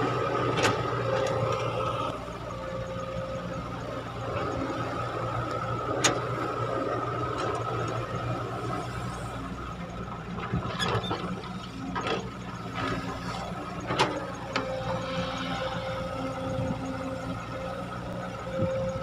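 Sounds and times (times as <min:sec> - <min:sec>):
excavator engine whining: 0:00.0 - 0:19.0.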